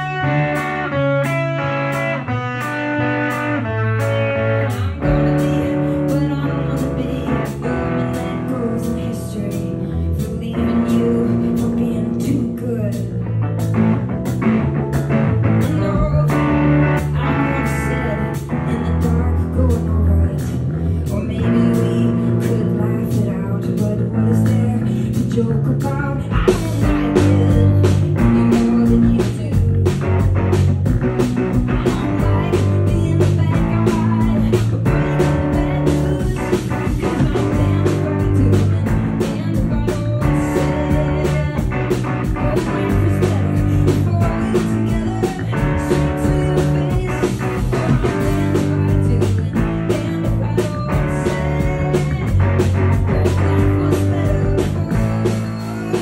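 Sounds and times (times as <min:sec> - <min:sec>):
drum kit steady beat: 0:00.0 - 0:20.5, 0:22.4 - 0:56.0
bass guitar: 0:00.0 - 0:56.0
electric guitar: 0:00.0 - 0:56.0.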